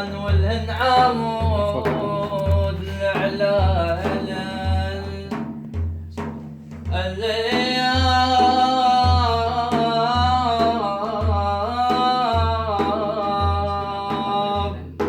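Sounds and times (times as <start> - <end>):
low drum beat: 0.0 - 15.0.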